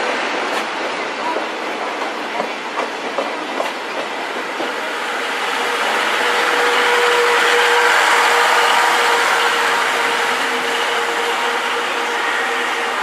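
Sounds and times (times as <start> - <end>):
train wheels clicking over rail joints: 0.1 - 12.2.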